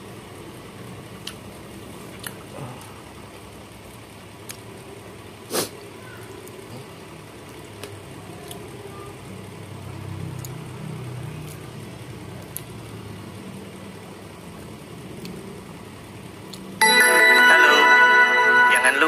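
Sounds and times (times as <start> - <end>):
low mechanical hum: 0.0 - 16.8.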